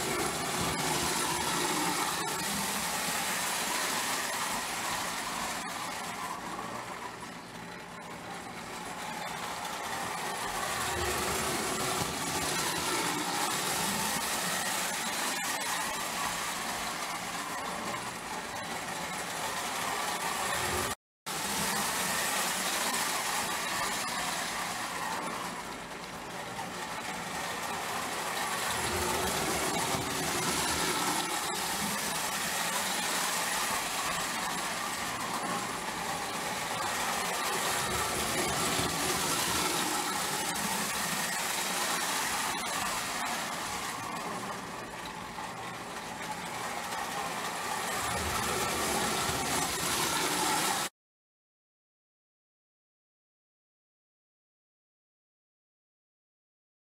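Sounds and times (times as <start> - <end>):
toy train motor whirring: 0.0 - 50.9.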